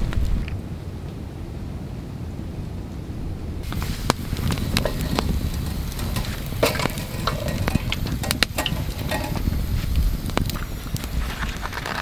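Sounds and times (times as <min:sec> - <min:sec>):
campfire crackling and popping: 0:00.0 - 0:01.2, 0:02.9 - 0:12.0
low rumble: 0:00.0 - 0:12.0.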